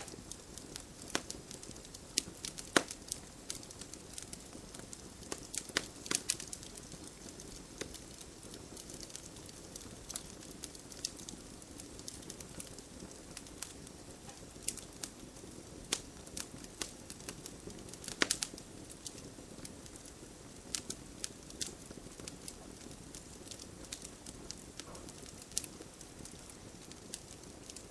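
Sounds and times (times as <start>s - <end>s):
campfire hissing: 0.0s - 27.9s
fire crackles and pops: 0.0s - 27.9s.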